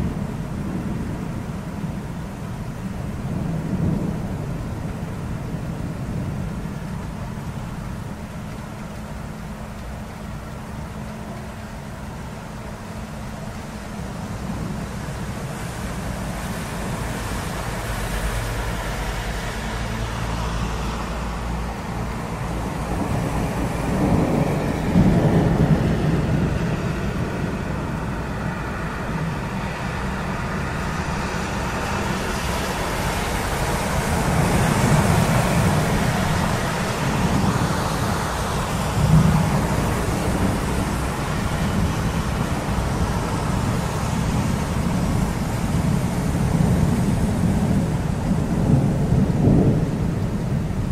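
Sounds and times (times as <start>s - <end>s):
deep thunder rumbles: 0.0s - 19.2s, 20.2s - 50.9s
steady rain: 0.0s - 50.9s
traffic noise: 0.0s - 50.9s.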